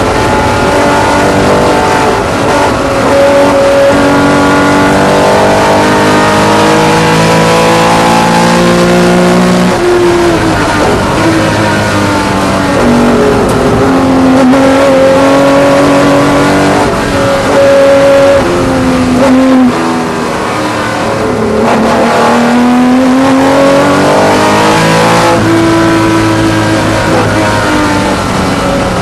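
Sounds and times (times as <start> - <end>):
racing car engine: 0.0 - 29.0.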